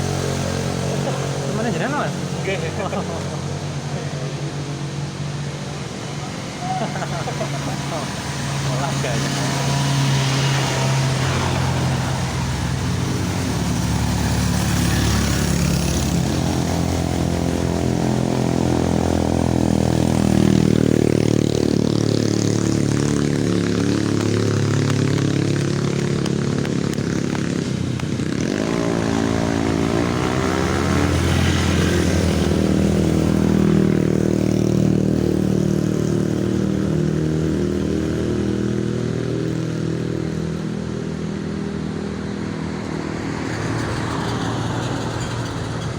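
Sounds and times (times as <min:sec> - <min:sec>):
vehicle engines labouring uphill: 0:00.0 - 0:45.9.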